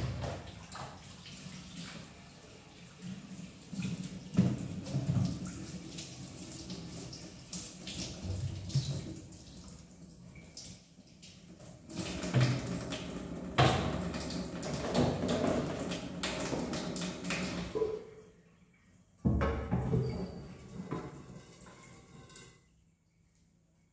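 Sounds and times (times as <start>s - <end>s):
tap water splashing into sink: 0.0s - 2.1s, 3.0s - 18.2s, 19.2s - 22.6s.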